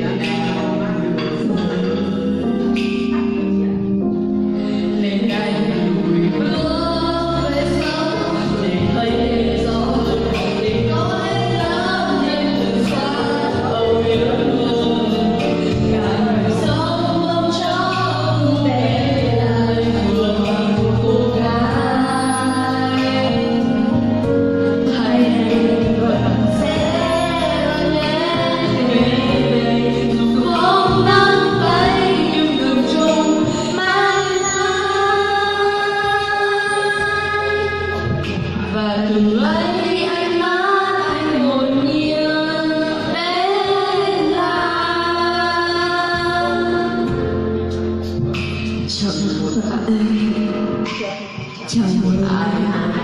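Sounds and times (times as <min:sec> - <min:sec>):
backing music with bass line: 0:00.0 - 0:53.0
person singing love song: 0:00.0 - 0:53.0.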